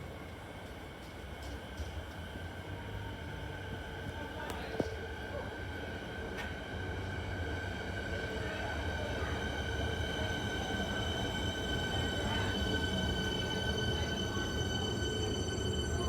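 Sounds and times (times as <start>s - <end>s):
electric train rumble: 0.0s - 16.0s
train high whine: 0.0s - 16.0s.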